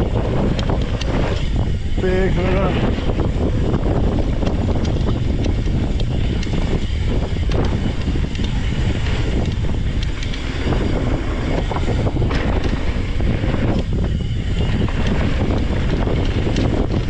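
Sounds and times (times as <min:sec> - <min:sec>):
bike tyres rolling over dirt: 0:00.0 - 0:17.0
gravel and bike rattles: 0:00.0 - 0:17.0
wind buffeting microphone: 0:00.0 - 0:17.0.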